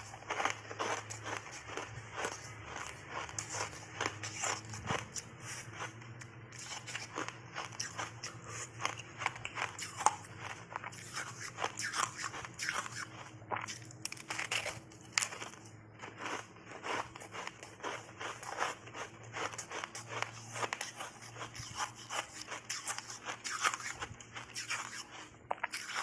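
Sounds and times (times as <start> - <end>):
faint low hum: 0.0 - 26.0
ice being crunched and chewed: 0.0 - 26.0.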